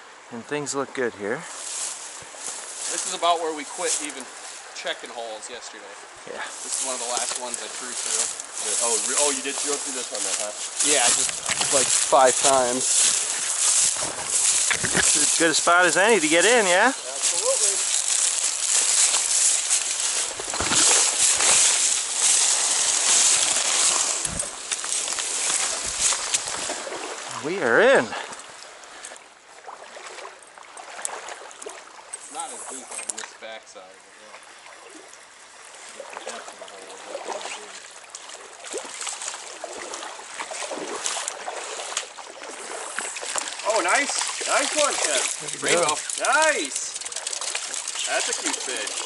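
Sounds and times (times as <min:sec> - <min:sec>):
river water rushing: 0:06.5 - 0:32.8, 0:35.7 - 0:49.0
small water splashes: 0:06.5 - 0:33.4, 0:34.3 - 0:49.0.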